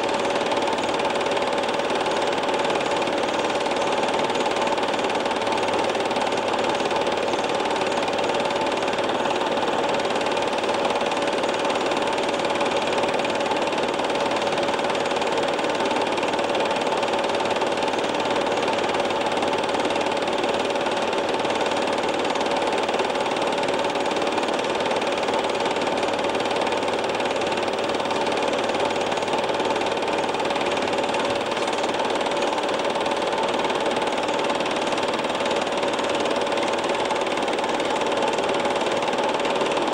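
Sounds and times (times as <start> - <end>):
mechanical running hum: 0.0 - 39.9.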